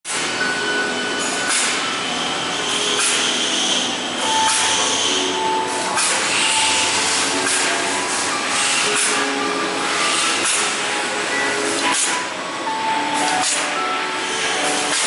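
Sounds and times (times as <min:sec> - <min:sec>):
factory machinery running: 0:00.1 - 0:15.0
machine hissing stroke: 0:01.2 - 0:12.2, 0:13.1 - 0:15.0.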